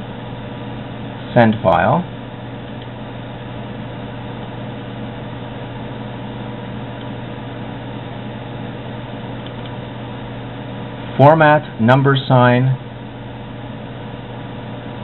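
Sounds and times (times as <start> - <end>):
computer fan noise: 0.0 - 15.0
low electrical hum: 0.0 - 15.0.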